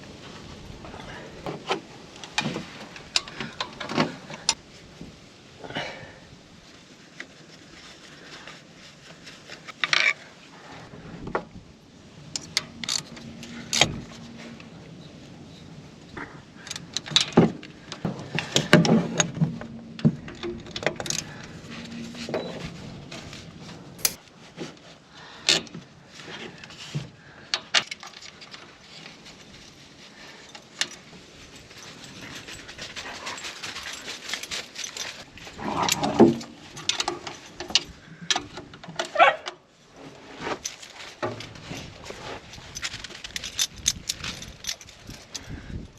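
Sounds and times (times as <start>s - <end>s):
hand tools and metal clinking: 2.2s - 4.6s, 7.1s - 10.9s, 12.2s - 24.7s, 25.4s - 45.9s.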